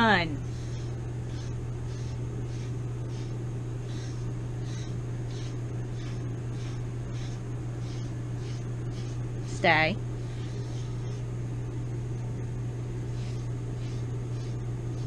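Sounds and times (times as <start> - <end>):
comb raking through dog fur: 0.0 - 11.4, 13.0 - 15.0
steady low hum: 0.0 - 15.0.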